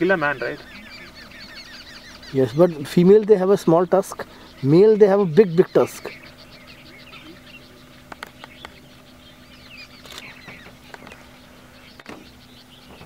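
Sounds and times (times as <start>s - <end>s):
faint steady hum: 0.0s - 13.0s
small birds chirping: 0.0s - 13.0s.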